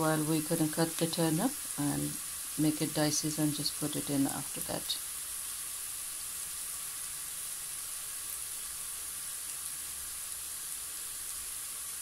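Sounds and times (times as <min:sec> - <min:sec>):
food frying in ghee: 0:00.0 - 0:12.0.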